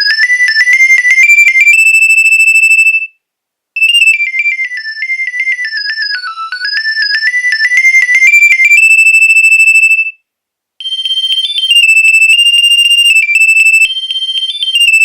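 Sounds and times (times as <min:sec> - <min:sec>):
mobile phone ringtone beeps: 0:00.0 - 0:03.1, 0:04.8 - 0:10.2, 0:10.8 - 0:15.0.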